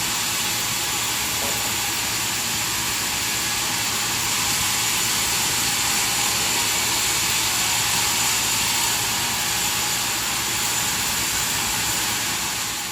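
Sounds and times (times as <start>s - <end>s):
high-pitched machine whines: 0.0s - 12.9s
sawmill machinery hiss: 0.0s - 12.9s.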